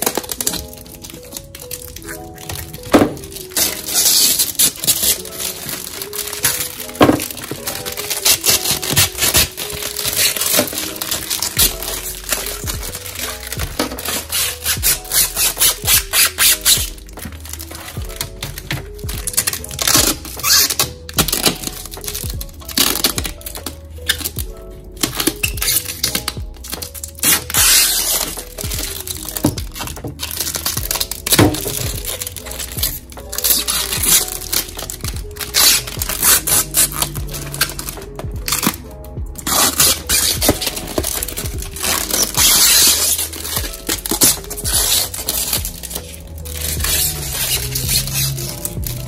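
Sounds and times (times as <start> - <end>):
lo-fi background music: 0.0 - 49.0
plastic case squeaking and clattering: 0.0 - 49.0.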